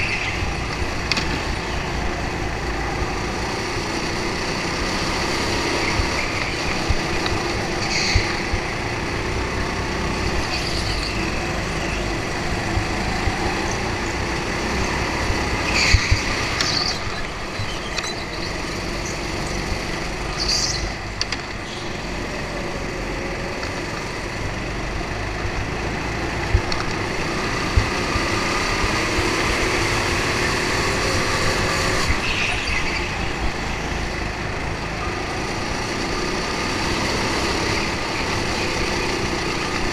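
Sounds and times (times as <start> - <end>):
go-kart engine at full speed: 0.0 - 39.9
other karts nearby: 0.0 - 39.9.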